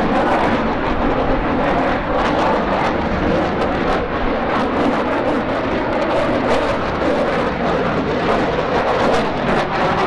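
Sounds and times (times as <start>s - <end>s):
jet engines roaring overhead: 0.0s - 10.0s.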